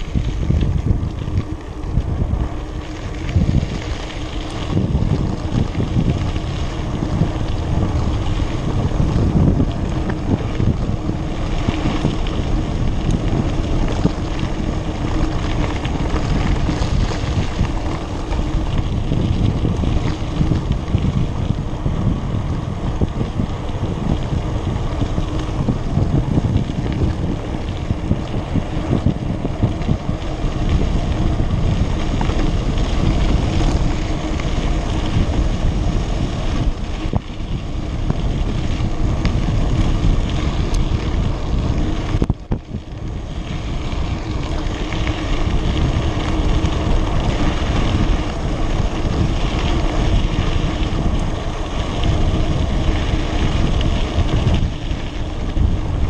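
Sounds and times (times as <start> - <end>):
bike tyres rumbling on dirt: 0.0 - 56.0
wind buffeting microphone: 0.0 - 56.0.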